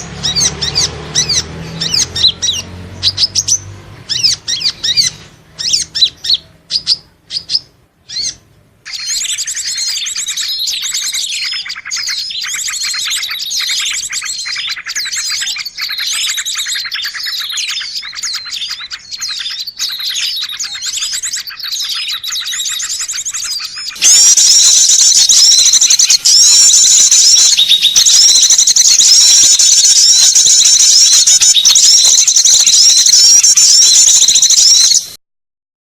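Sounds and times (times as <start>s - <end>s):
recorded songbirds twittering: 0.0s - 35.2s.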